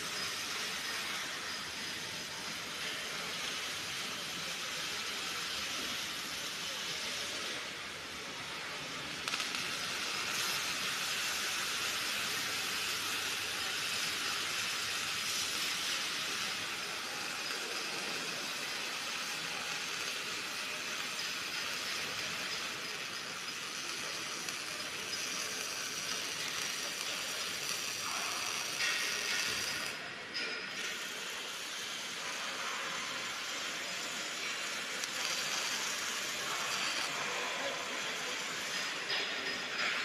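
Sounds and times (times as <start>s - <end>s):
arc welding crackling hiss: 0.0s - 40.0s.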